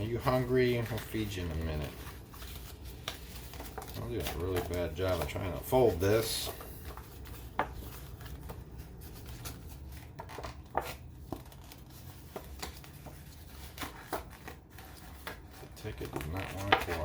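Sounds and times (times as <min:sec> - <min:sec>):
paper ticket crinkling and scraping: 0:00.0 - 0:17.0.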